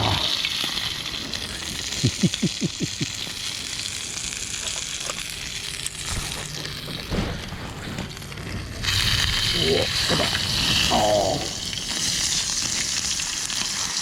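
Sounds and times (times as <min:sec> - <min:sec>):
fish deep-frying in oil: 0:00.0 - 0:07.2, 0:08.0 - 0:14.0.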